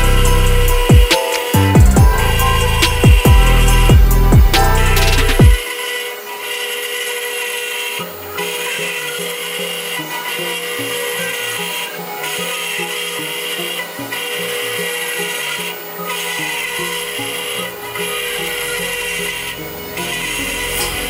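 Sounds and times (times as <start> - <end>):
router bit rasping wood: 0.0 - 21.0
router spindle whine: 0.0 - 21.0.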